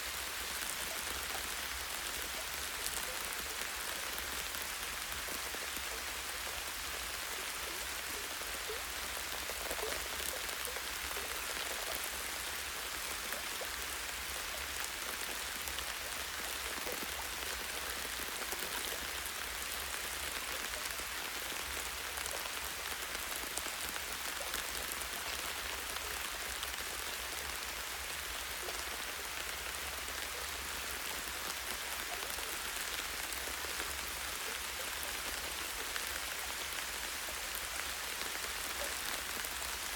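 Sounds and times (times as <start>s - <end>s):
light rain on leaves: 0.0s - 39.9s.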